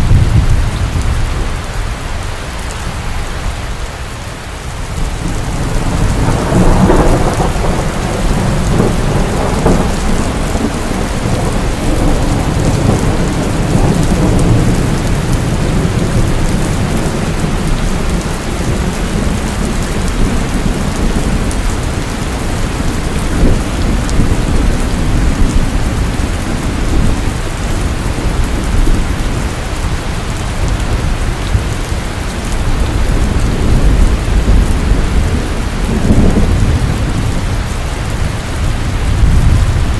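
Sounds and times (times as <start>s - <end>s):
rolling thunder: 0.0s - 1.7s, 4.9s - 39.9s
heavy rain: 0.0s - 39.9s.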